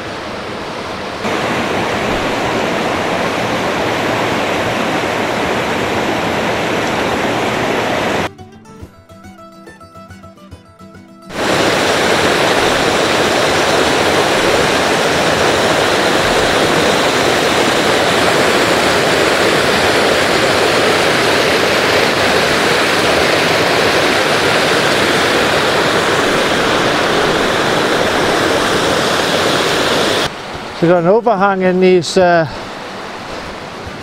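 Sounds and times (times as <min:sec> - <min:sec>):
waterfall rushing water: 0:00.0 - 0:08.3, 0:11.3 - 0:34.0.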